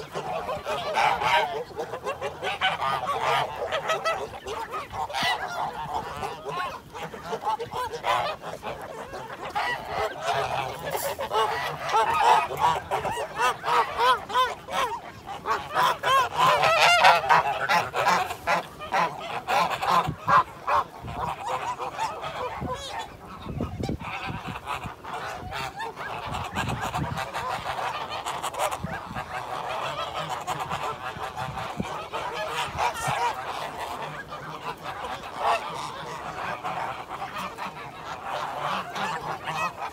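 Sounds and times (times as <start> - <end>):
flock of birds calling: 0.0 - 39.9.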